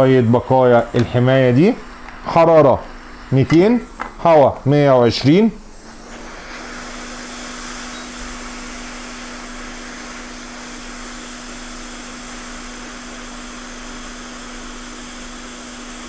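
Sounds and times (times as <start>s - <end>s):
hot air blowing: 0.0s - 16.0s
motor hum: 0.0s - 16.0s.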